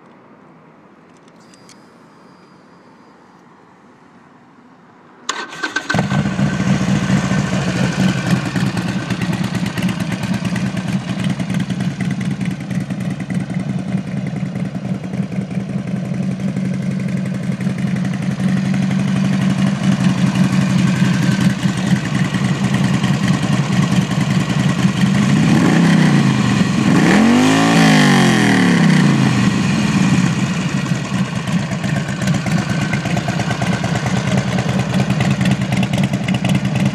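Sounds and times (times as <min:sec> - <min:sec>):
motorcycle engine idling and revving: 0:05.3 - 0:36.9.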